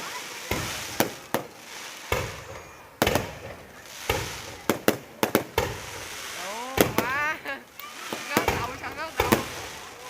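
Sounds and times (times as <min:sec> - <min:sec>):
fireworks bangs with echo: 0:00.0 - 0:10.0.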